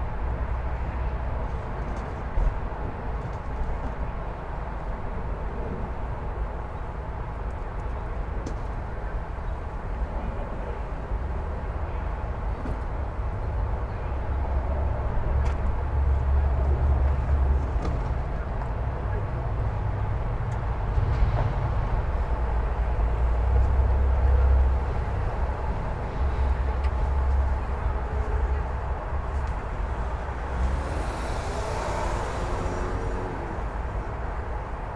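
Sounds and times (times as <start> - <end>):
freeway traffic: 0.0 - 34.9
low rumble of heavy vehicles: 0.0 - 34.9.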